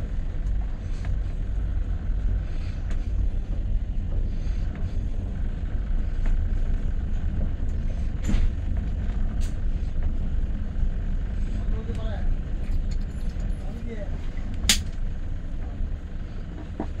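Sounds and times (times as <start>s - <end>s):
train rumbling inside coach: 0.0s - 17.0s.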